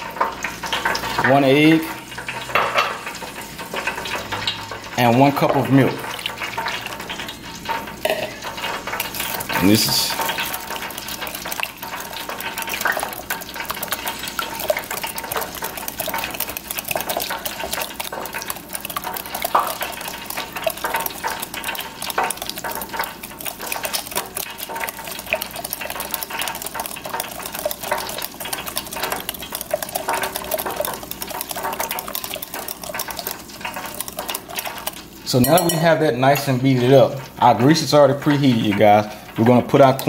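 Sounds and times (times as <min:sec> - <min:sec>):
whisk beating batter in glass bowl: 0:00.2 - 0:40.0.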